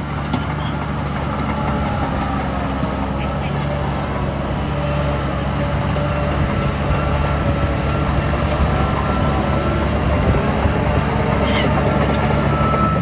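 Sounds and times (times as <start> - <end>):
diesel machinery engine drone: 0.0 - 13.0.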